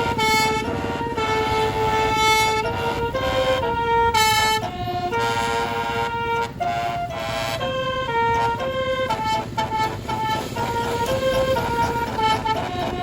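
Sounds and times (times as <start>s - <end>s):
low engine rumble: 0.0s - 13.0s
truck air horn melody: 0.0s - 13.0s.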